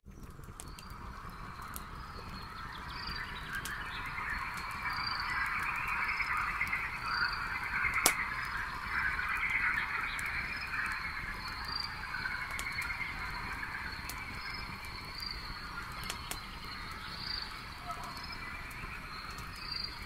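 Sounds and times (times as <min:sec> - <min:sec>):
campfire crackling and popping: 0:00.0 - 0:20.0
frogs croaking: 0:00.8 - 0:20.0.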